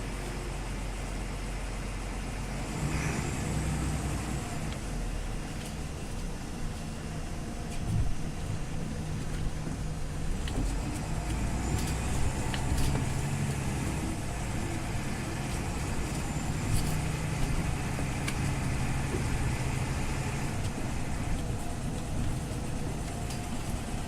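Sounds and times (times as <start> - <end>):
bus engine humming: 0.0 - 24.0.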